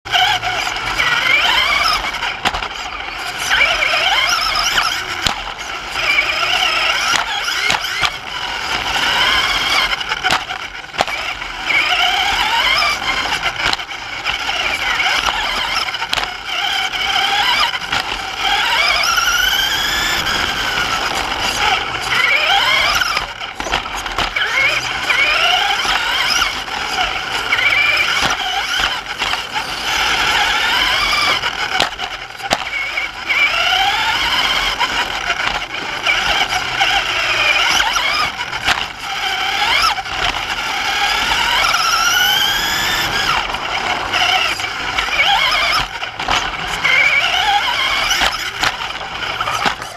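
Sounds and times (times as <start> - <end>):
rc truck motor whining: 0.0 - 49.9.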